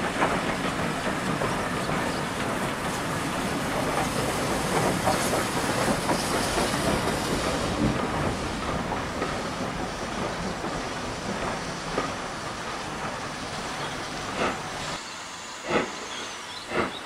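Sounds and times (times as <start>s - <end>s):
train carriages clattering on rails: 0.0s - 15.0s, 15.6s - 17.0s
steam hissing: 0.0s - 17.0s.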